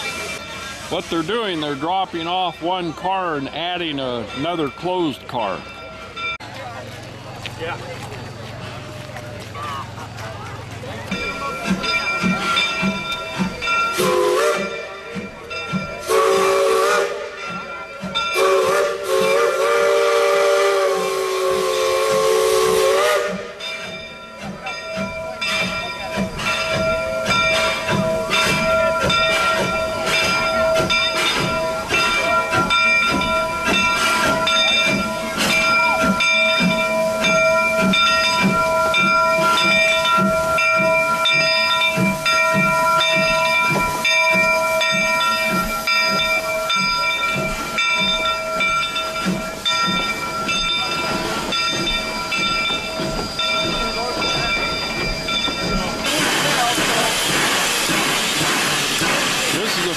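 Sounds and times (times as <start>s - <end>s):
steam hissing: 0.0s - 2.5s, 11.1s - 59.9s
steam locomotive chime whistle: 11.1s - 59.9s.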